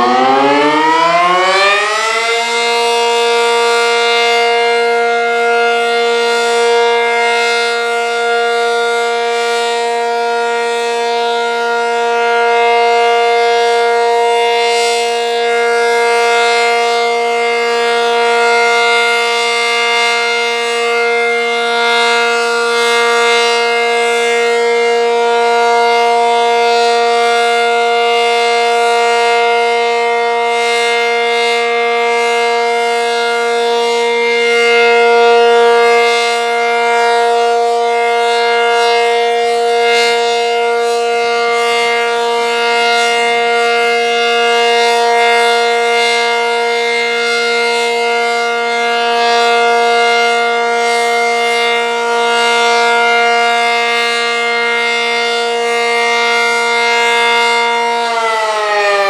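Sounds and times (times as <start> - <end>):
tornado siren steady tone: 0.0 - 59.0.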